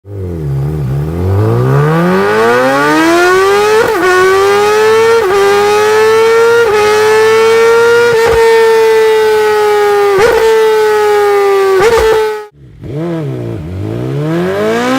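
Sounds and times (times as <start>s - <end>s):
motorbike engine accelerating hard: 0.1s - 14.9s.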